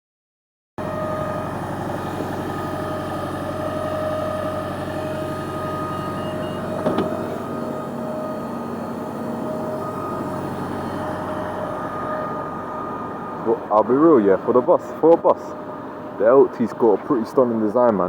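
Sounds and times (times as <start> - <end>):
bus engine hum: 0.8 - 18.0
bus high-pitched whine: 0.8 - 18.0.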